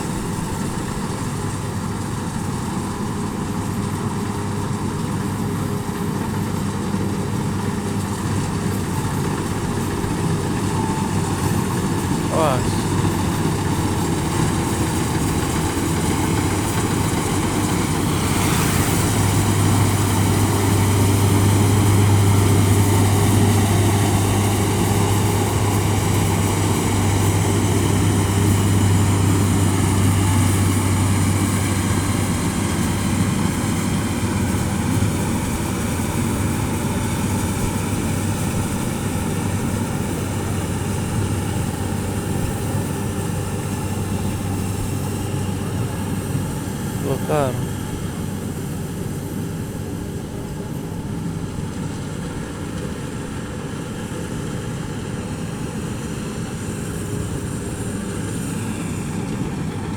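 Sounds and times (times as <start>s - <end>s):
harvester engine droning: 0.0s - 59.9s.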